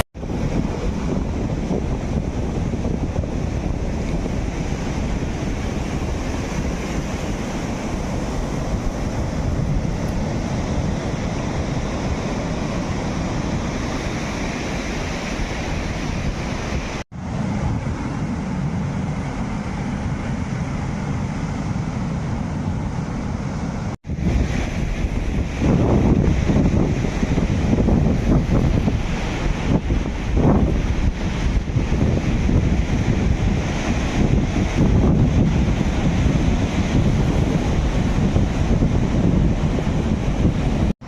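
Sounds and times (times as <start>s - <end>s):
sea waves washing ashore: 0.0s - 41.0s
wind buffeting microphone: 0.0s - 41.0s.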